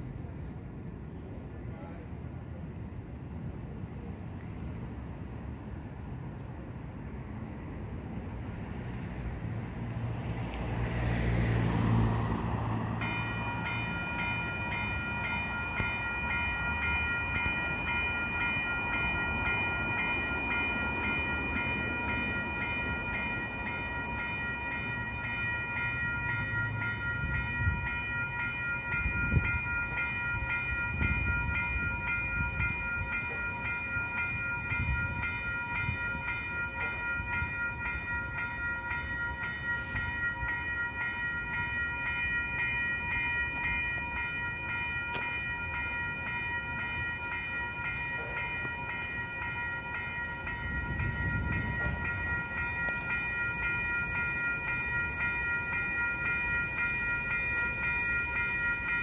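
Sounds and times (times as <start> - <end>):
low street traffic rumble: 0.0 - 59.0
railroad crossing bell ringing: 0.0 - 59.0.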